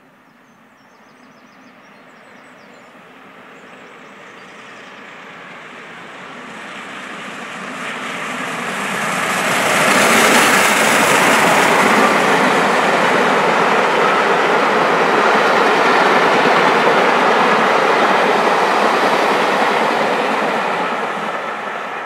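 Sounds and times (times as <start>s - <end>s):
steam locomotive passing: 0.0s - 22.0s.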